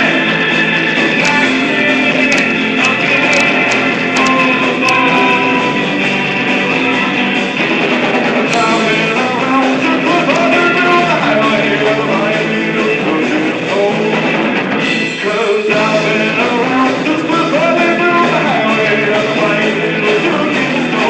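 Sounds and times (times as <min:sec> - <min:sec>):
guitar playing: 0:00.0 - 0:21.0.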